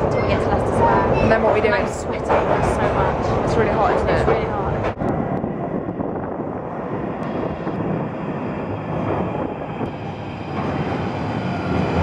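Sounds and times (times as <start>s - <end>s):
train rumble and rushing: 0.0s - 12.0s.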